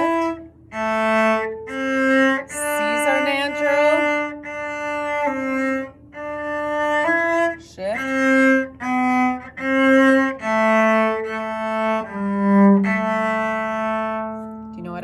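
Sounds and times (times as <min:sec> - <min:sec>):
bowed cello notes: 0:00.0 - 0:15.0.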